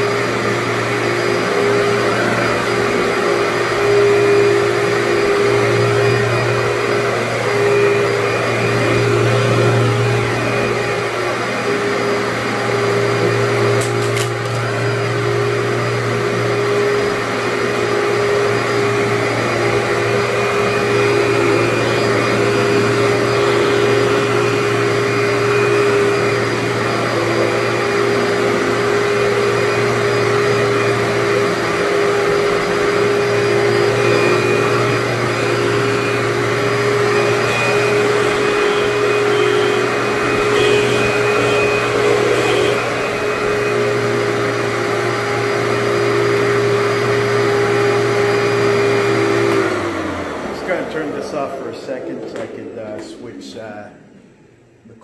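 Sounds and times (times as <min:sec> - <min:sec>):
vacuum cleaner running over carpet: 0:00.0 - 0:53.2.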